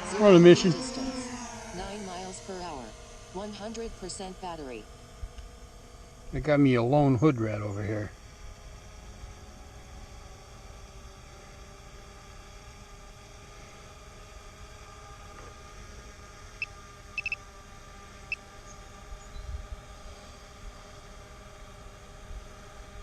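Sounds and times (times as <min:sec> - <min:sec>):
drone rotors whining: 0:00.0 - 0:23.0.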